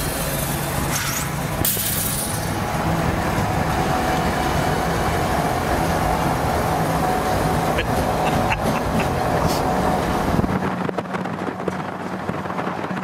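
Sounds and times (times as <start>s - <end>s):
diesel locomotives rolling past: 0.0s - 13.0s
thin whine: 0.0s - 13.0s.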